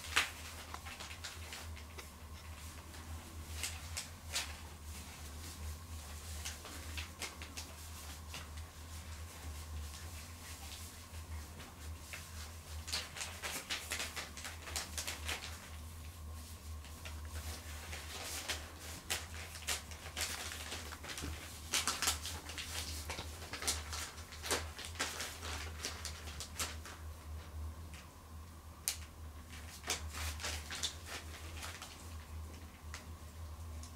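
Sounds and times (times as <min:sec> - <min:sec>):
rustling and crinkling of paper: 0:00.0 - 0:28.1, 0:28.9 - 0:33.9
steady low hum: 0:00.0 - 0:33.9.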